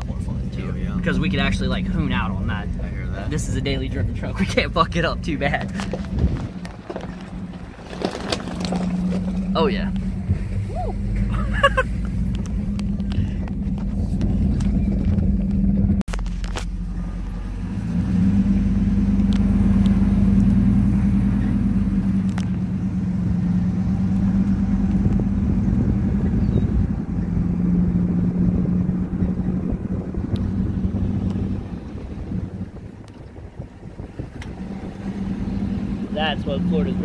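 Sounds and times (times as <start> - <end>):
truck engine drone: 0.0 - 37.0
tyre and road noise: 0.0 - 37.0.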